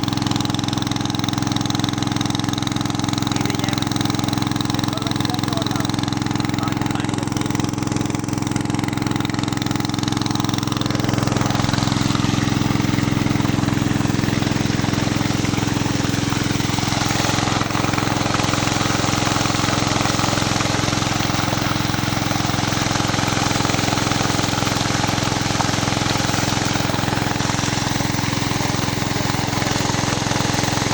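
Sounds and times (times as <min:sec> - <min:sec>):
petrol engine running: 0:00.0 - 0:30.9.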